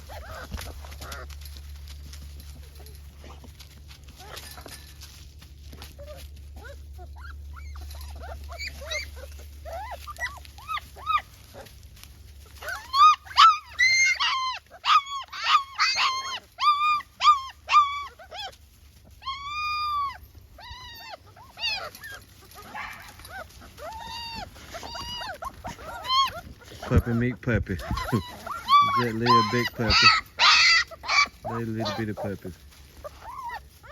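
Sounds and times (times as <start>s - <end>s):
puppies whining: 0.0s - 33.9s.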